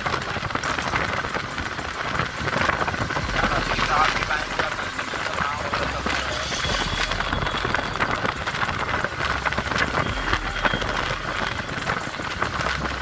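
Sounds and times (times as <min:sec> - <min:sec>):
motorcycle engine drone: 0:00.0 - 0:13.0
wind rush on microphone: 0:00.0 - 0:13.0.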